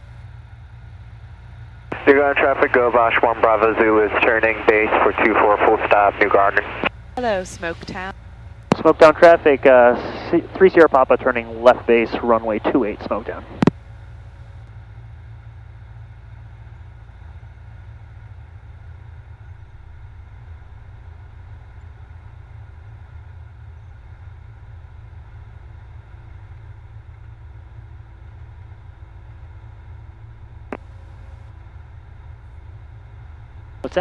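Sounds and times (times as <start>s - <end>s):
airplane engine and propeller droning: 0.0s - 34.0s.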